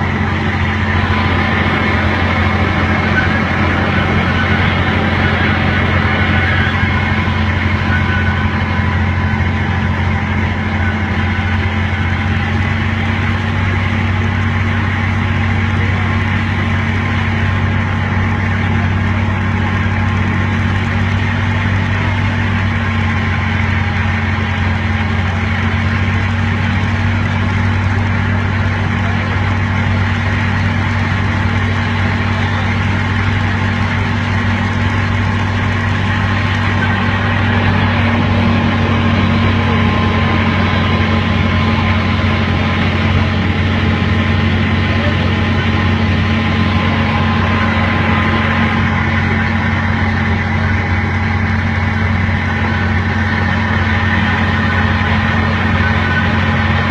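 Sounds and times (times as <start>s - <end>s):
small train engine droning: 0.0s - 56.9s.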